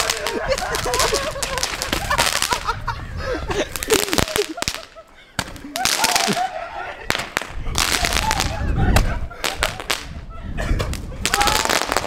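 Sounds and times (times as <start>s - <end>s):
fireworks crackling and popping: 0.0s - 2.9s, 3.7s - 6.5s, 7.1s - 12.0s
people yelling and whooping: 0.0s - 12.0s.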